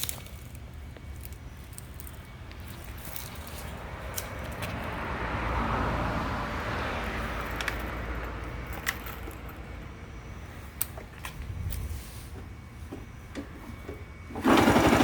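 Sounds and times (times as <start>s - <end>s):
motorcycle engine rattling: 0.0s - 5.3s, 6.6s - 15.0s.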